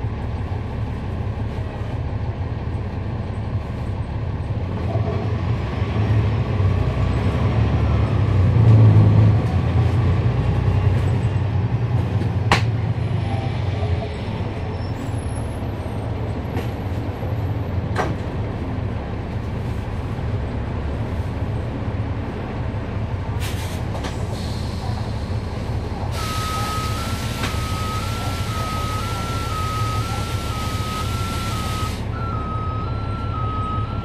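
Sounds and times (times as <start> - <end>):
bus engine rumbling: 0.0 - 34.0.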